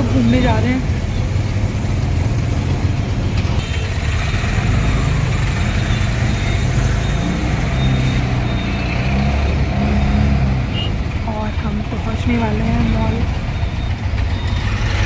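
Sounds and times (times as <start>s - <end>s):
auto-rickshaw engine running: 0.0s - 15.0s
road traffic rumble: 0.0s - 15.0s.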